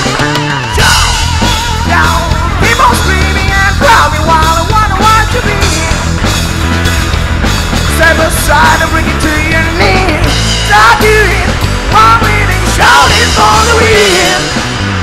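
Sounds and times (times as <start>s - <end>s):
high wavering lead guitar: 0.0s - 15.0s
rock band playing: 0.0s - 15.0s.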